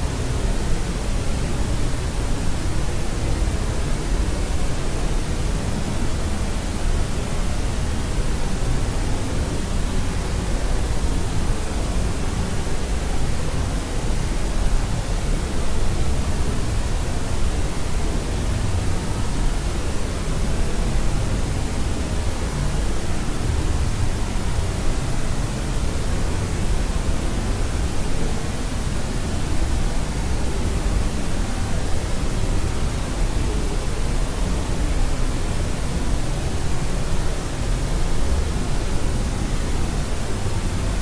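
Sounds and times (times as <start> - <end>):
white noise hiss: 0.0 - 41.0.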